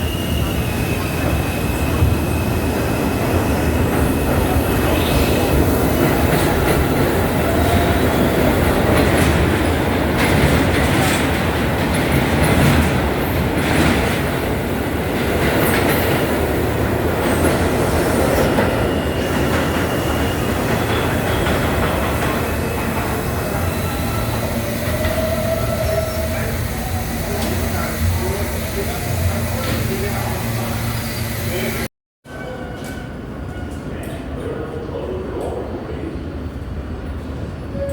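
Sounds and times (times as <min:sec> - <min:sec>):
subway train rumble: 0:00.0 - 0:37.9.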